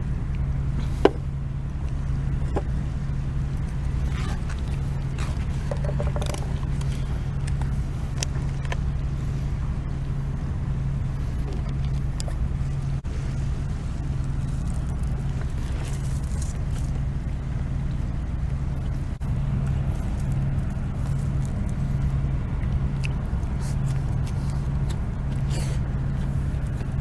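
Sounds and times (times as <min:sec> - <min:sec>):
low engine-like hum: 0:00.0 - 0:27.0.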